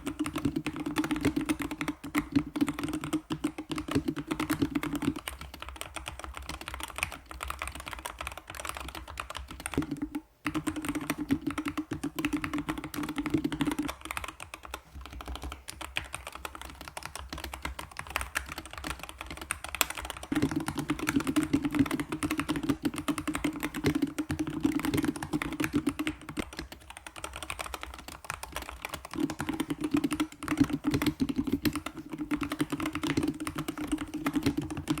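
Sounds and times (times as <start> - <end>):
fast keyboard typing: 0.0 - 35.0.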